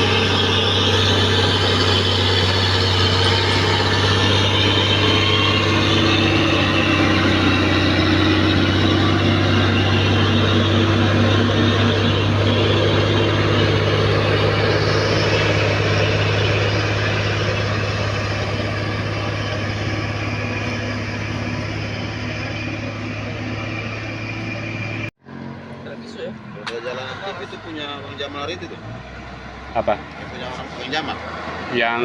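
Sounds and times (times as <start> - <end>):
truck engine droning: 0.0 - 32.0.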